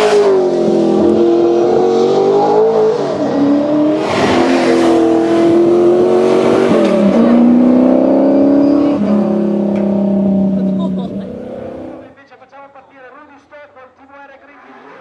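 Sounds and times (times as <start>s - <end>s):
racing car engine accelerating: 0.0s - 12.1s.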